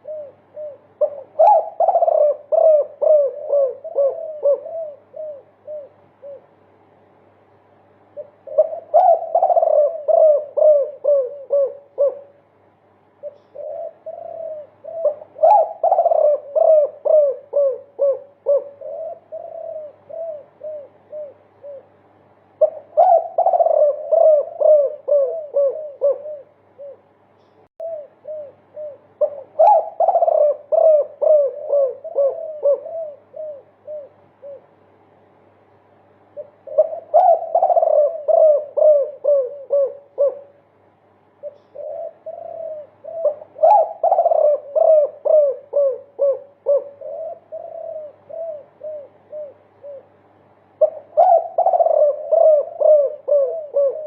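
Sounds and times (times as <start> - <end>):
dove cooing: 0.0 - 7.0, 8.0 - 12.6, 13.2 - 35.2, 36.1 - 54.0.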